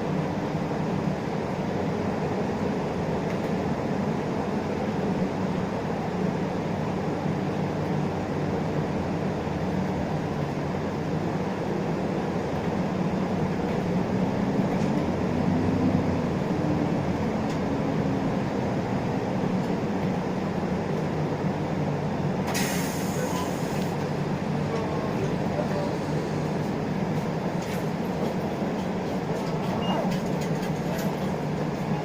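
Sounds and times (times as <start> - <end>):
bus diesel engine: 0.0 - 32.0
road noise: 0.0 - 32.0.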